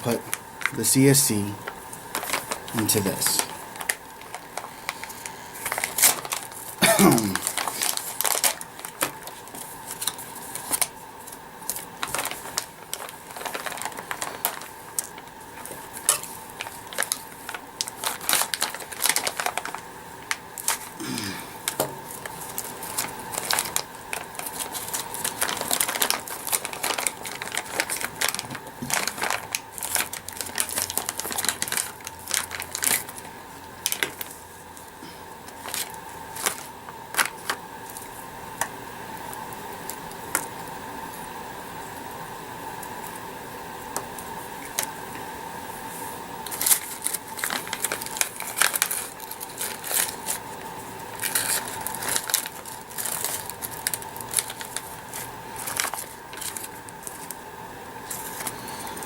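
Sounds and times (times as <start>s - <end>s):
small parts clicking and crinkling: 1.6s - 21.0s, 21.6s - 38.7s, 46.4s - 57.4s.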